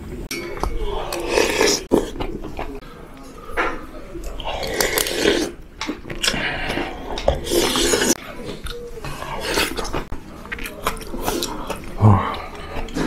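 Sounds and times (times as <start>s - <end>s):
slurping and chewing: 0.6s - 2.8s, 4.2s - 13.0s.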